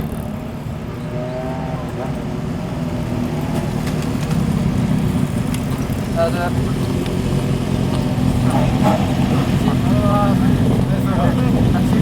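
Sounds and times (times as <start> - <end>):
motorcycle engines at low speed: 0.0 - 12.0.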